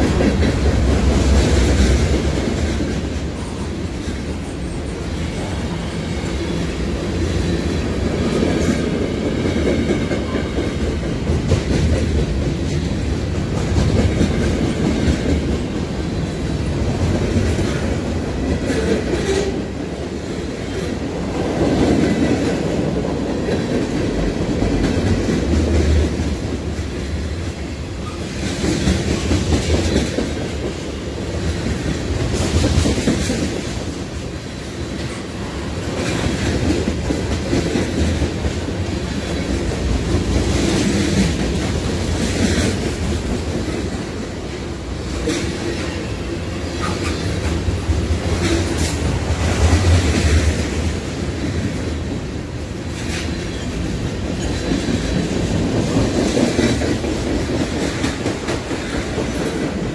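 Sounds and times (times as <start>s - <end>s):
train wheels rumbling on rail: 0.0s - 59.9s
wheels clickety-clack over rail joints: 0.0s - 59.9s.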